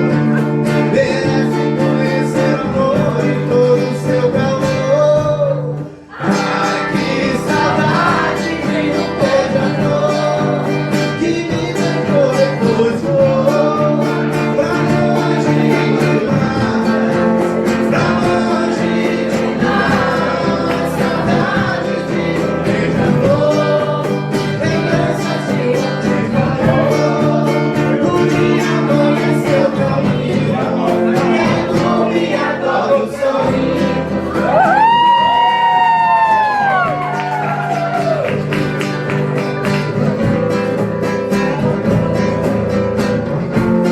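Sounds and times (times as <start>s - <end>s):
song with guitar and singing: 0.0s - 43.9s.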